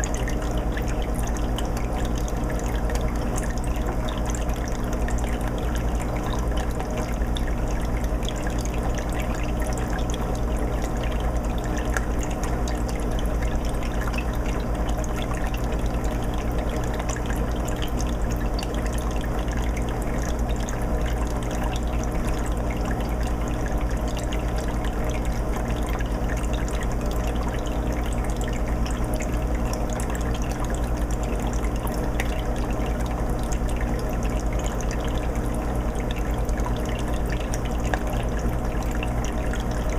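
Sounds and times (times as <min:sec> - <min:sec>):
constant low hum: 0:00.0 - 0:39.9
water trickling and bubbling: 0:00.0 - 0:39.9.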